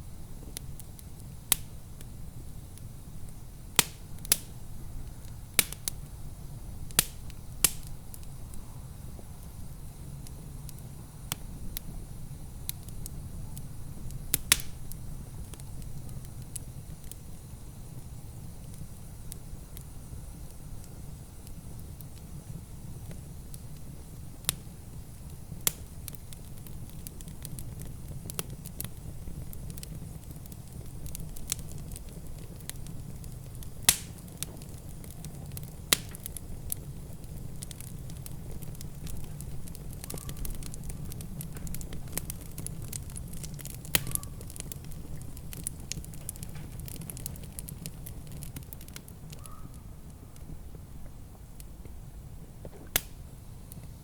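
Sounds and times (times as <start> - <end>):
low rumble of fire: 0.0 - 54.0
wood fire crackling and popping: 0.0 - 54.0.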